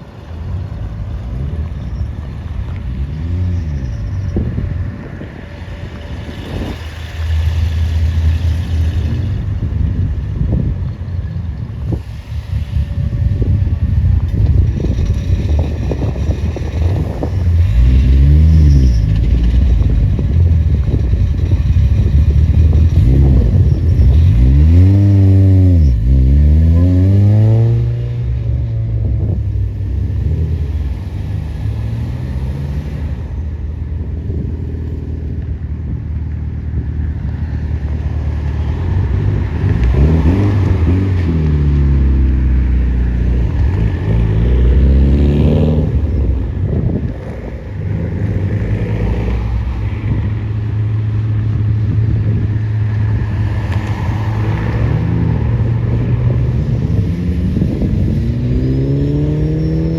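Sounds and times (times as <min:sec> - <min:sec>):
car engine revving: 0:00.0 - 0:10.8, 0:11.7 - 0:35.1, 0:36.8 - 0:59.9.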